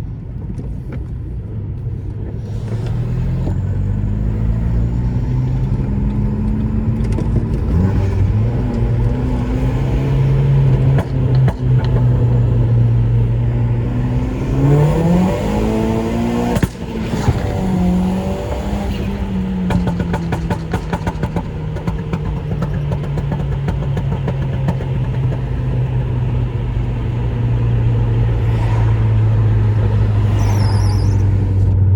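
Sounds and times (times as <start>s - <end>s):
car engine revving: 1.8s - 31.9s.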